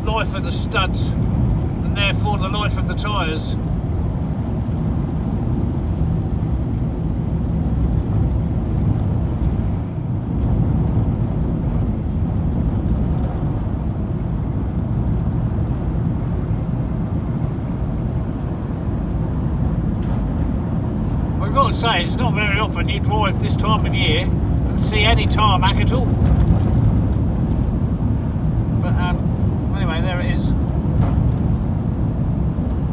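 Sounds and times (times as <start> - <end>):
van engine and tyre rumble: 0.0 - 32.9
wind noise: 0.0 - 32.9.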